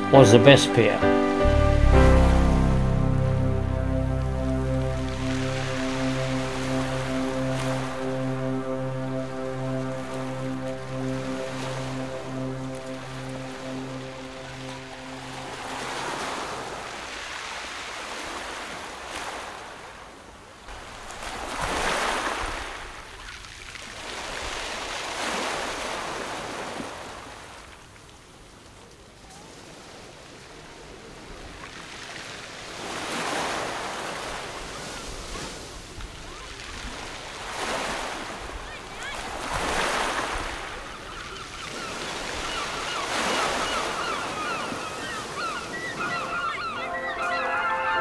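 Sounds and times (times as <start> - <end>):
sea waves breaking on shore: 0.0 - 48.0.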